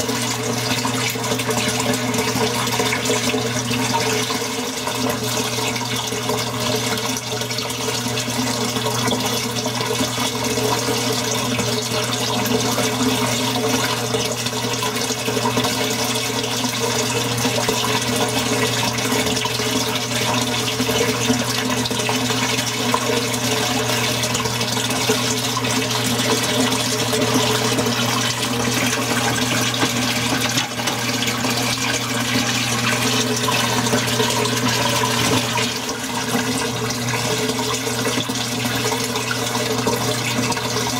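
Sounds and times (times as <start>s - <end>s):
aquarium filter water rushing: 0.0s - 40.9s.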